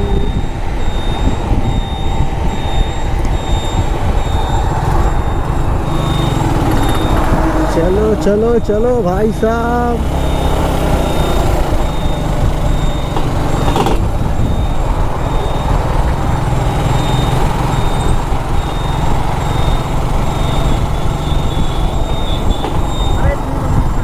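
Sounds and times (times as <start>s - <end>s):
motorcycle engine and road noise: 0.0s - 24.0s.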